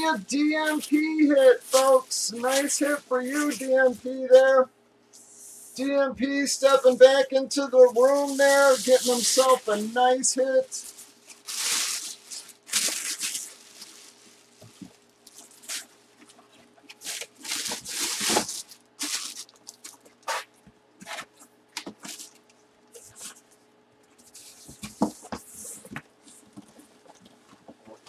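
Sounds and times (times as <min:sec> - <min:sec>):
plastic bag crinkling: 0:00.0 - 0:04.6, 0:07.9 - 0:23.5, 0:24.2 - 0:27.4.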